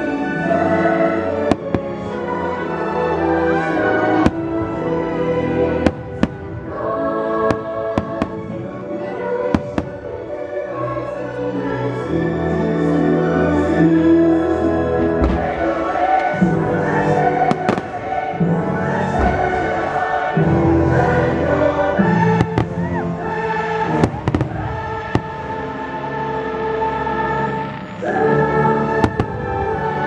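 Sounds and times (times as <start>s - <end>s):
show music with choir on loudspeakers: 0.0s - 30.0s.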